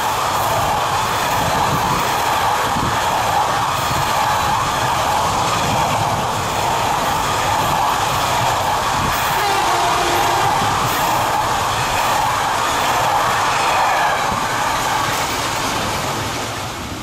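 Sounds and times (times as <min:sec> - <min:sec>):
freight train wagons rolling on rails: 0:00.0 - 0:17.0.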